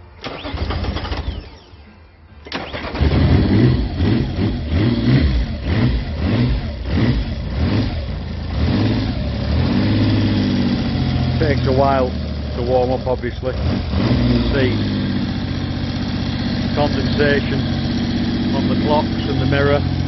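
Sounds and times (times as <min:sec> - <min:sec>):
motorcycle engine cold-starting: 0:00.2 - 0:20.0.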